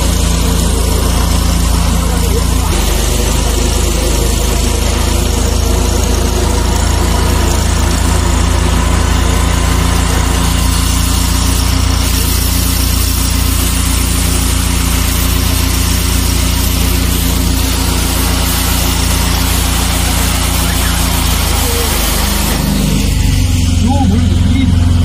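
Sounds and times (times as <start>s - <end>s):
engine drone: 0.0s - 25.0s
high-pressure water jet hissing: 0.0s - 25.0s.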